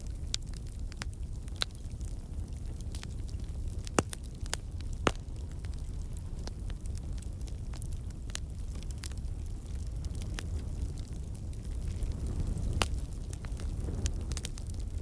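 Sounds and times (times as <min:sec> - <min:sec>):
campfire logs crackling: 0:00.0 - 0:15.0.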